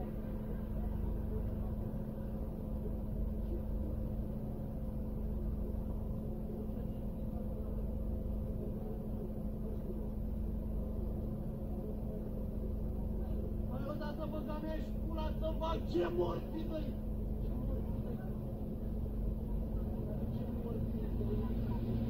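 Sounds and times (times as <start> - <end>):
car idling from inside cabin: 0.0 - 22.0.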